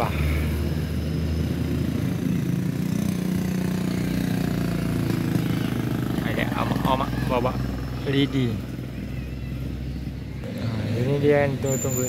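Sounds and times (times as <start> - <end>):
motorcycle engine: 0.0 - 12.0
road traffic passing: 0.0 - 12.0.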